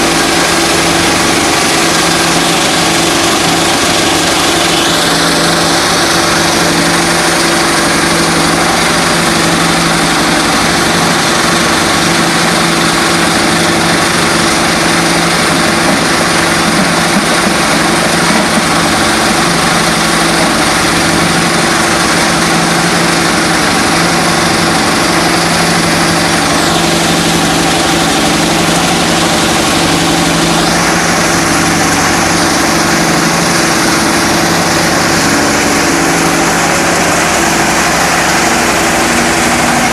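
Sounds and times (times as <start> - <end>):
machine hissing: 0.0 - 39.9
stone crusher machine drone: 0.0 - 39.9.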